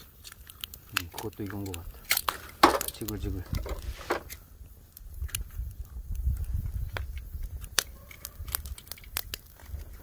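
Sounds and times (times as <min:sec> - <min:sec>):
campfire crackling: 0:00.0 - 0:10.0
sharp fire pops: 0:00.0 - 0:10.0.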